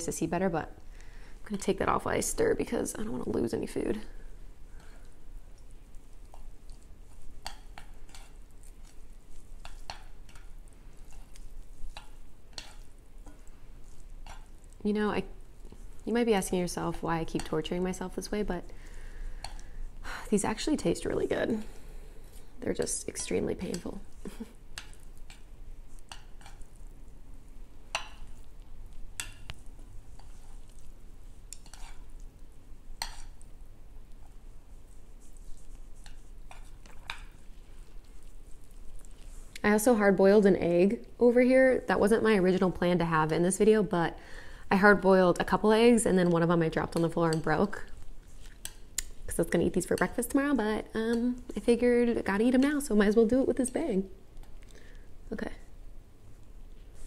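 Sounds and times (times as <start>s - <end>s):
wet noodles being stirred: 0.0s - 43.9s, 44.5s - 55.0s.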